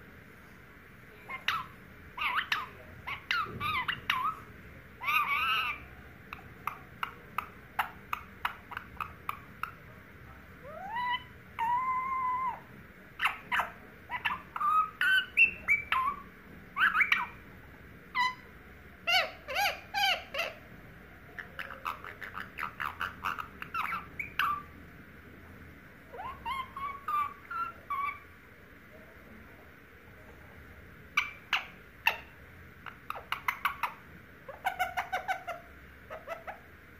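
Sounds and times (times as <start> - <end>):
parakeet chattering: 1.1 - 24.8, 26.1 - 28.4, 31.0 - 36.9.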